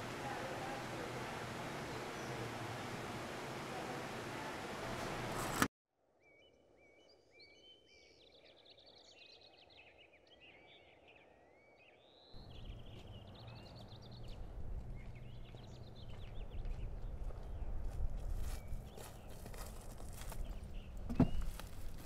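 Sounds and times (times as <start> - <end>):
songbirds chirping: 0.0 - 5.6, 6.2 - 22.0.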